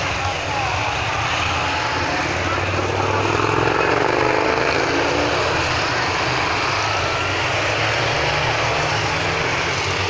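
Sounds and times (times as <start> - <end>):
motorcycles riding past: 0.0 - 10.0.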